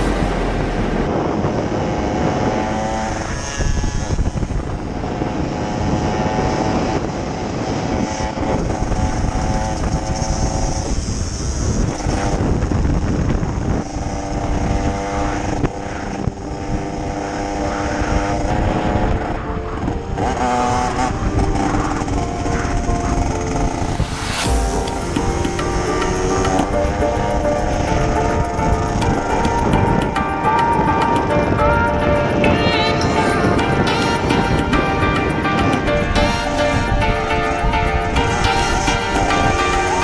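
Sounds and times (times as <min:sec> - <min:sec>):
moped engines revving: 0:00.0 - 0:10.8, 0:17.0 - 0:40.0.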